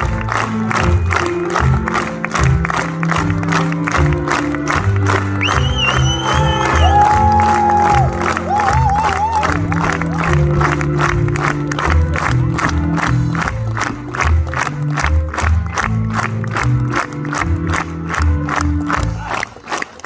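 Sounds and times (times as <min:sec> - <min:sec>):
crowd: 0:00.0 - 0:20.0.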